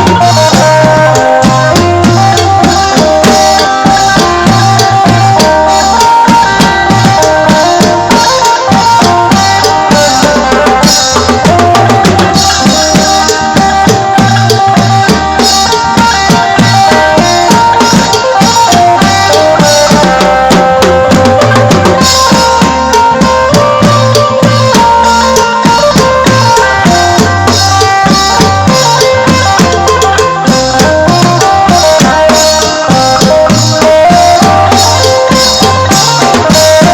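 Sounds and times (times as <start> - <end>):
drum kit and bass beat: 0.0 - 36.9.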